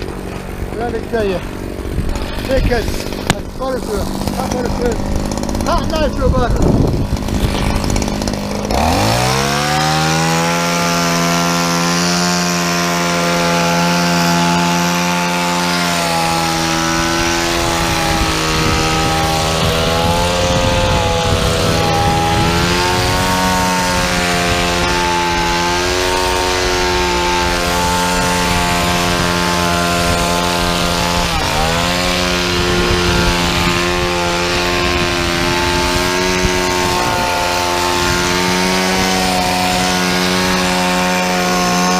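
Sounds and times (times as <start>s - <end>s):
hedge trimmer engine revving: 0.0s - 41.9s.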